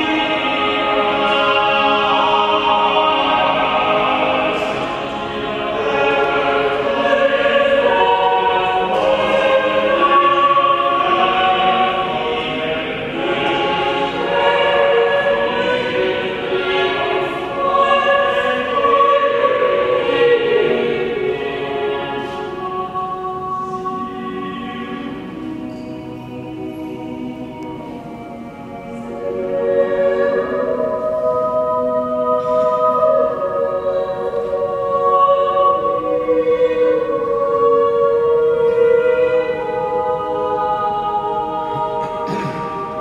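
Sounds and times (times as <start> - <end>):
choir singing in harmony: 0.0 - 43.0.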